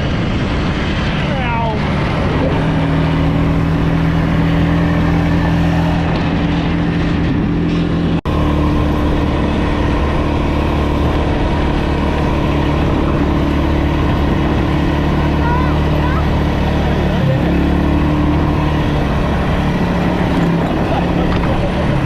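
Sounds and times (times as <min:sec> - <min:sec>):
motorbike engine running: 0:01.3 - 0:22.0.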